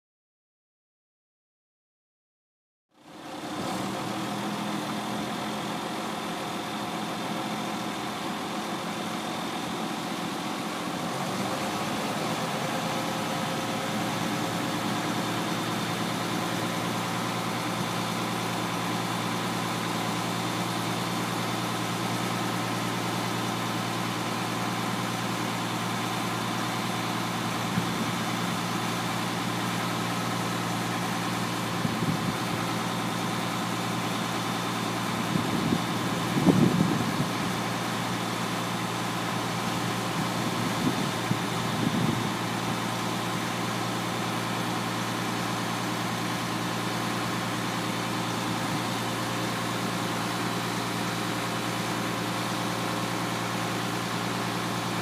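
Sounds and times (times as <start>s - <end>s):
diesel truck engine running: 2.9s - 55.0s.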